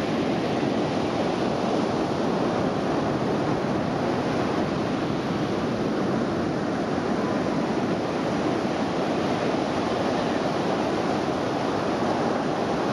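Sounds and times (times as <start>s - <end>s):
ocean surf breaking: 0.0s - 12.9s
wind buffeting microphone: 0.0s - 12.9s.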